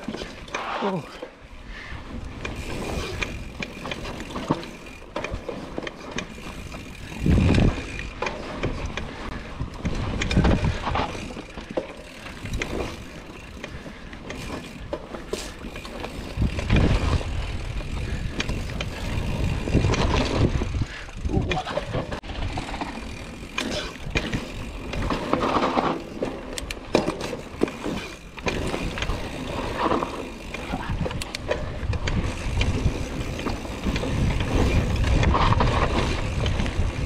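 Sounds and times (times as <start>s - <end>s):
bike chain and frame rattling: 0.0s - 37.0s
bike tyres rolling on dirt: 0.0s - 37.0s.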